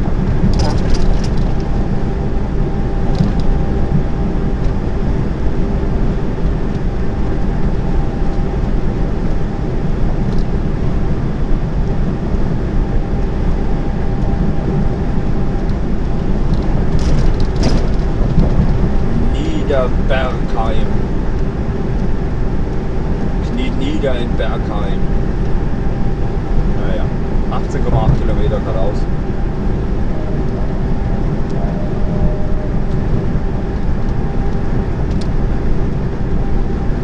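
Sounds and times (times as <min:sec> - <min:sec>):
faint steady hum: 0:00.0 - 0:37.0
lorry engine and road rumble: 0:00.0 - 0:37.0.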